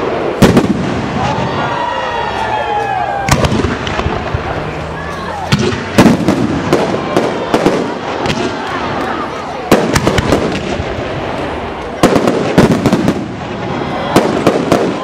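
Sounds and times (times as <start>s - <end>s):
firework crackling: 0.0s - 15.0s.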